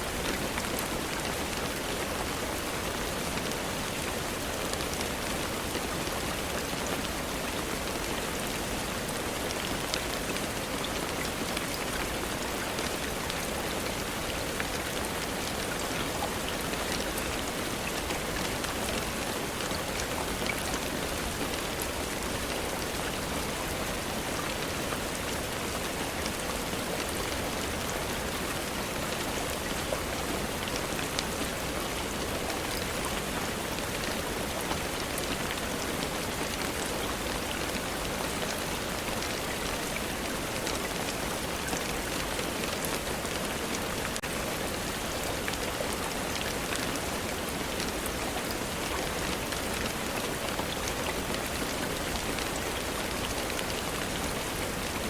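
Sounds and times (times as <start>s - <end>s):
rain hissing on a surface: 0.0s - 55.0s.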